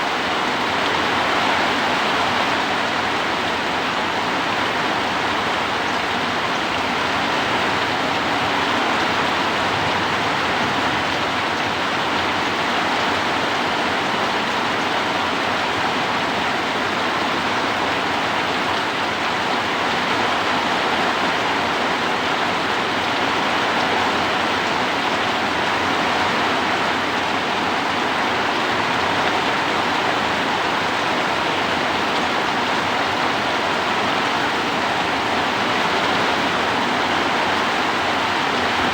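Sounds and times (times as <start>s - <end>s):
heavy rain in strong wind: 0.0s - 38.9s.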